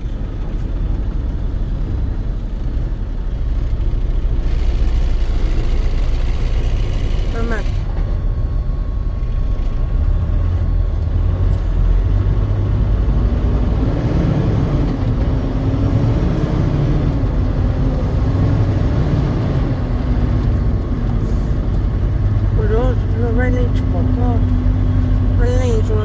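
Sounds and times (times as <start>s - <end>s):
truck engine and road rumble: 0.0s - 26.0s.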